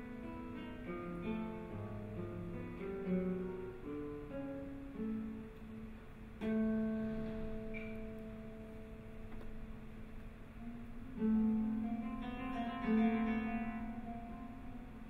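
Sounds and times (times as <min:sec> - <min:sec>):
classical guitars plucking notes: 0:00.0 - 0:15.0.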